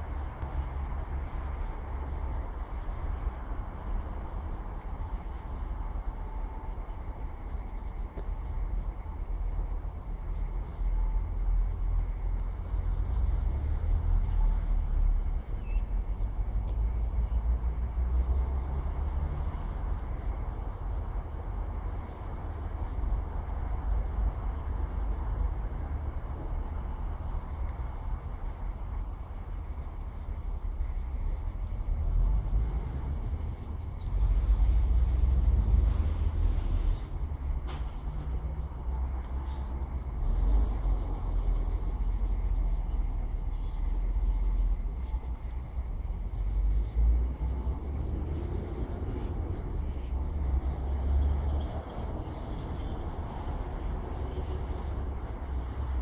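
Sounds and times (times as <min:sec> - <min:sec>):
small birds chirping: 0:00.0 - 0:03.7, 0:11.6 - 0:14.4, 0:15.4 - 0:56.0
low rumble: 0:00.0 - 0:56.0.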